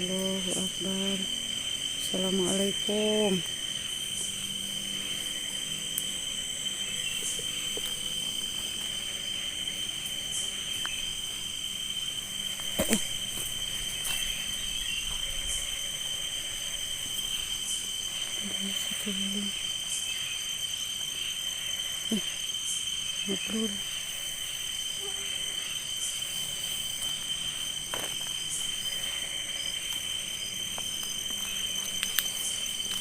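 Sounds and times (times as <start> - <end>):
crickets and insects chirring: 0.0 - 33.0.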